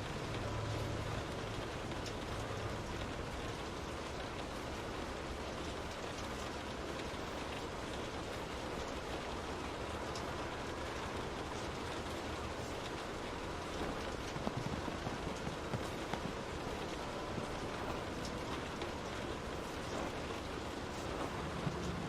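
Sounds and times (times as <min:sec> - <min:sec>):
raindrops ticking on window: 0:00.0 - 0:22.0
steady rain hiss: 0:00.0 - 0:22.0.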